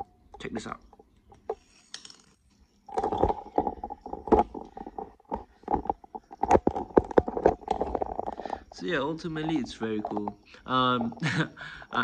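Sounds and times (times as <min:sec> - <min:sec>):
spinning top humming: 0:00.0 - 0:12.0.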